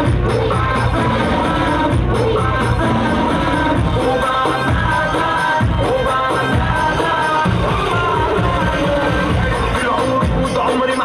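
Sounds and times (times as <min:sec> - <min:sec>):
music with bass beat: 0:00.0 - 0:11.0.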